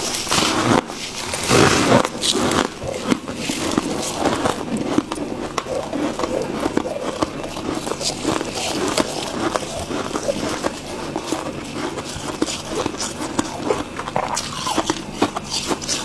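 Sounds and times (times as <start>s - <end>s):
frost crunching being chewed: 0.0s - 16.0s.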